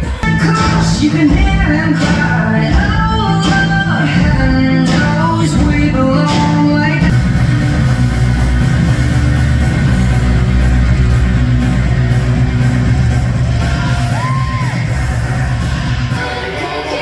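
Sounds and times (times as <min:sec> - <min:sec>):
heavy steady bass: 0:00.0 - 0:16.2
rock music with electric guitar: 0:00.0 - 0:16.3.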